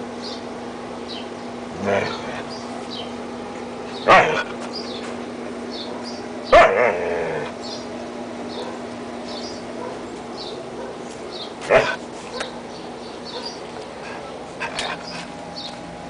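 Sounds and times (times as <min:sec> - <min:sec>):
dogs barking: 0:01.6 - 0:15.7.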